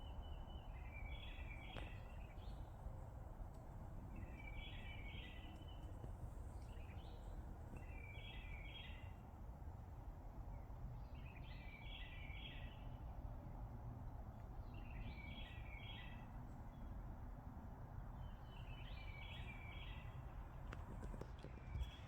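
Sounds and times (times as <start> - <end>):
songbird singing: 0.0 - 13.6, 14.3 - 22.0.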